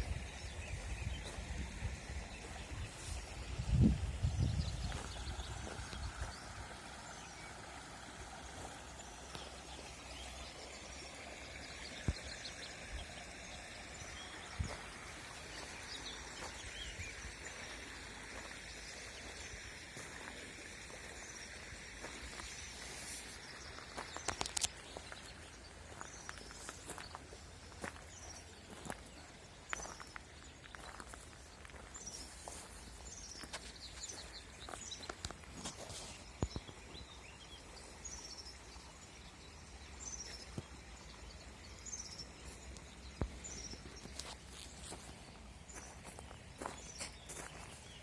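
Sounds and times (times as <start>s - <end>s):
small birds chirping: 0.0s - 7.7s, 8.3s - 48.0s
river water running: 0.0s - 48.0s.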